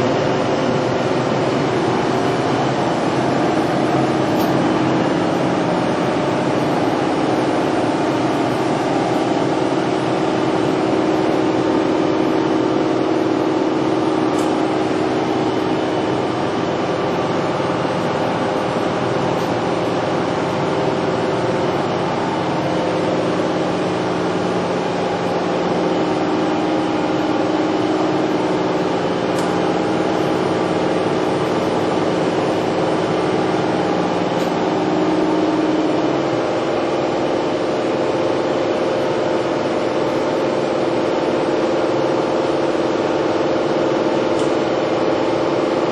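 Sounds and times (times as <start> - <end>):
machining center humming and whirring: 0.0 - 45.9.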